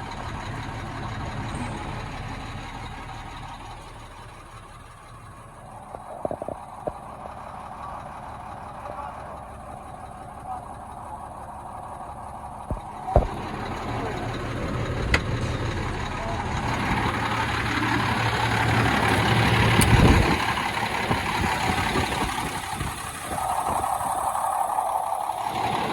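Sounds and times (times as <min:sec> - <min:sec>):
diesel truck engine running: 0:00.0 - 0:25.9.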